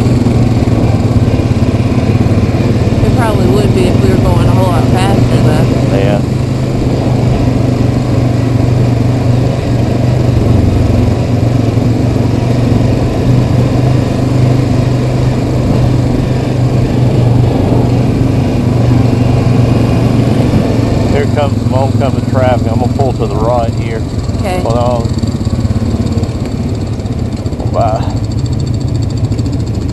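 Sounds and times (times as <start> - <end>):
atv engine cruising: 0.0 - 29.9.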